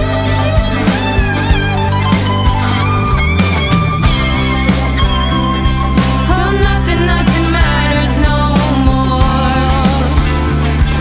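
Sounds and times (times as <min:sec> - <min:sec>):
drum kit: 0:00.0 - 0:11.0
electric guitars: 0:00.0 - 0:11.0.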